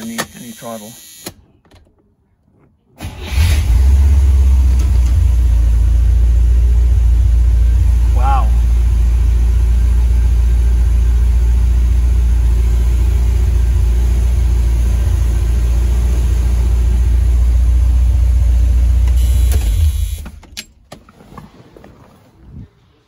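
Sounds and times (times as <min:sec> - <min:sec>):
car engine idling: 0:01.4 - 0:20.6.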